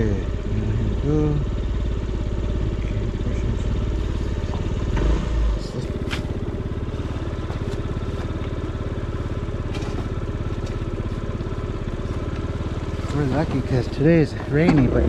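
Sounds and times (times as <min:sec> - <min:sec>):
scooter engine puttering: 0:00.0 - 0:15.0.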